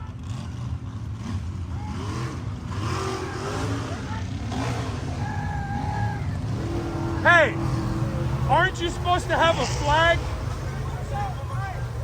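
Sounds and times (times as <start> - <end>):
vehicle engine running: 0.0 - 12.0
faint voices: 1.5 - 12.0.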